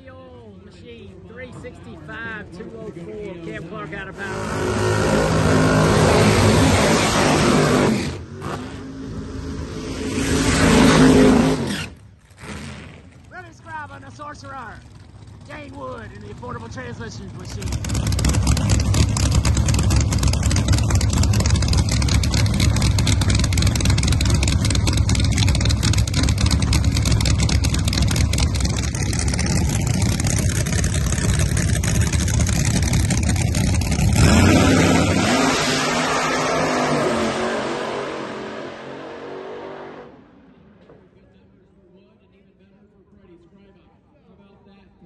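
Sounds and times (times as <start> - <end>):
drag car engines rumbling: 0.0 - 42.2
drag cars launching roar: 4.0 - 41.1.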